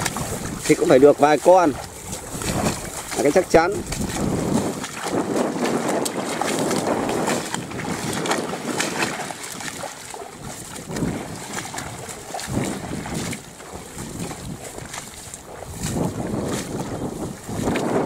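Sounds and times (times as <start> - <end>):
boots splashing through water and mud: 0.0 - 18.0.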